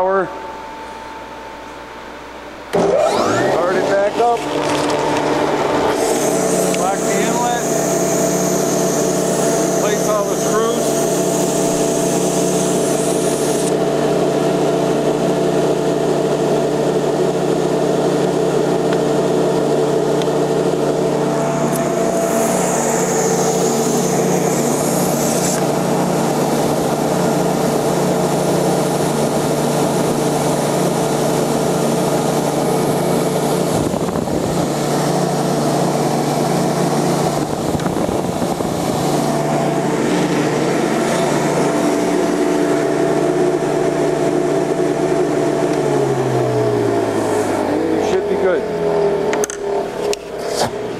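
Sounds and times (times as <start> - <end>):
industrial vacuum running: 0.0 - 50.9.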